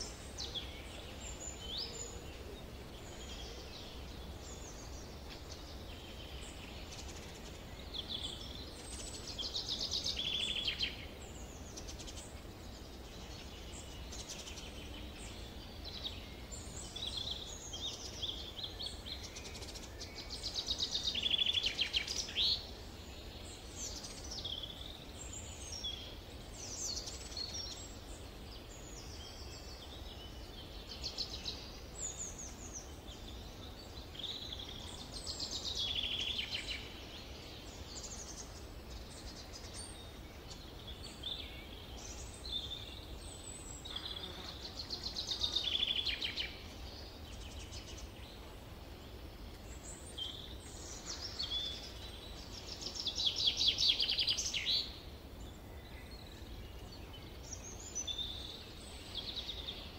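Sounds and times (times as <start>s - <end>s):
forest birds singing: 0.0s - 59.9s.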